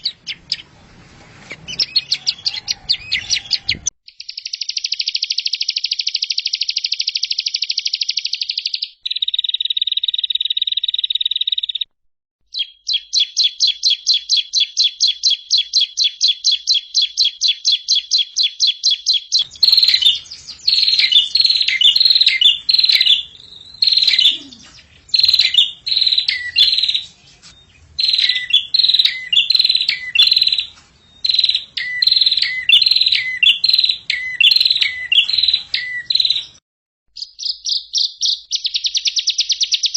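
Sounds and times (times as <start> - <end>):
songbird trills: 0.0 - 11.9, 12.5 - 36.6, 37.2 - 39.9.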